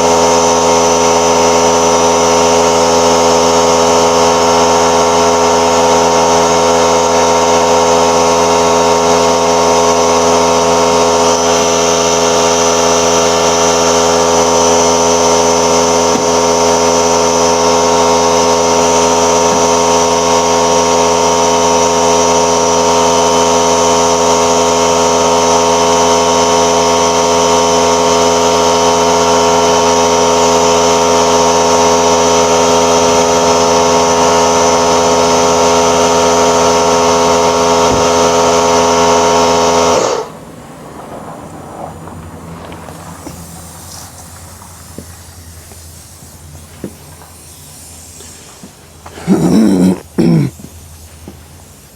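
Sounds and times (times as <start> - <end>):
machine running steadily: 0.0 - 51.9.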